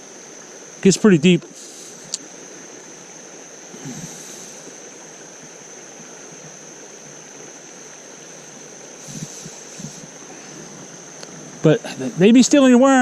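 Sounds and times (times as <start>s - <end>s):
creek water running over rocks: 0.0s - 13.0s.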